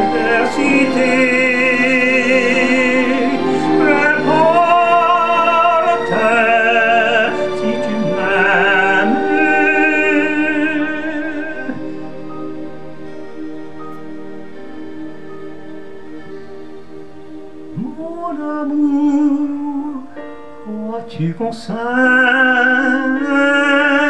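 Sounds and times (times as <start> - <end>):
man singing with vibrato: 0.0 - 13.0, 17.7 - 24.0
keyboard backing track: 0.0 - 24.0.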